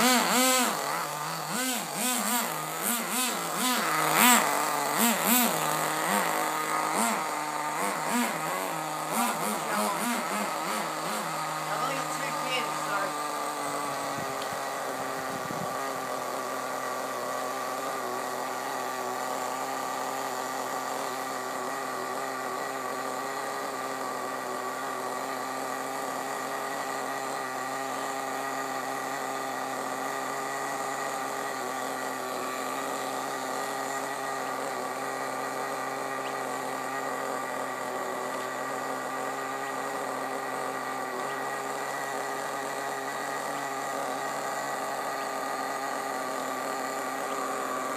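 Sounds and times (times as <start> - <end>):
small model engine idling: 0.0 - 47.9.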